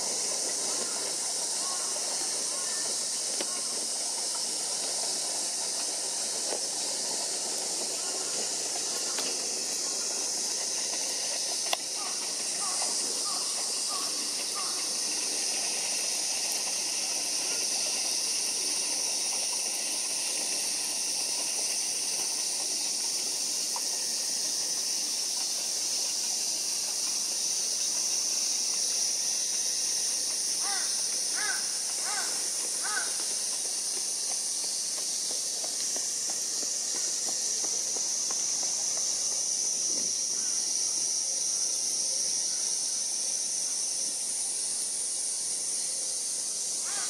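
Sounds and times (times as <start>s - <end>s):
insect drone: 0.0s - 47.0s.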